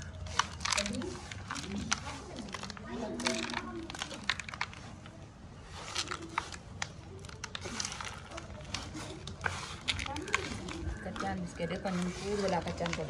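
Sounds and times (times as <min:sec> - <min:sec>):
dough crunching by hand: 0:00.0 - 0:13.0.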